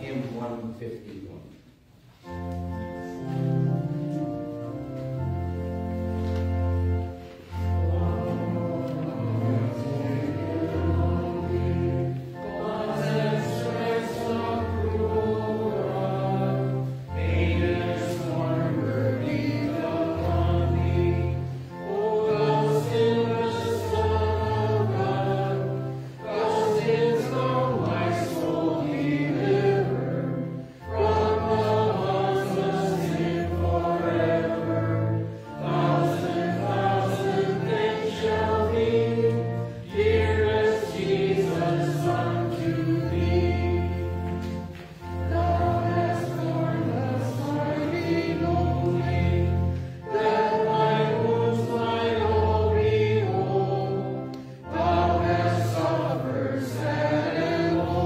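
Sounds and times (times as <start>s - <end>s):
organ playing: 1.9s - 58.0s
congregation singing a hymn: 2.2s - 58.0s.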